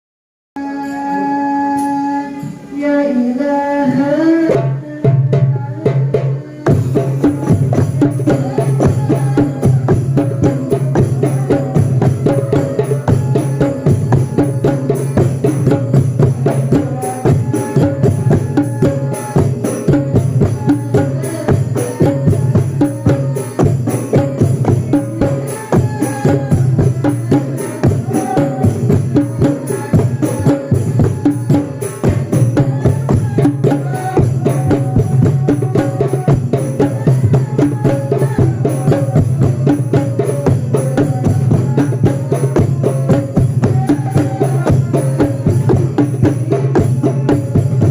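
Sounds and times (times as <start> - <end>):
drum and percussion music: 0.6 - 47.9.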